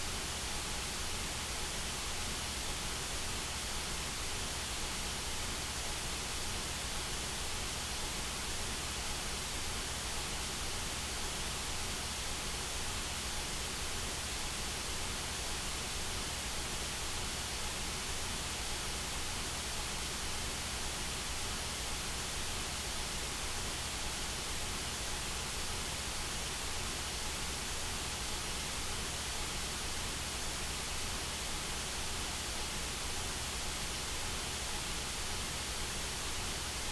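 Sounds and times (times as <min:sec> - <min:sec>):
white noise hiss: 0:00.0 - 0:36.9.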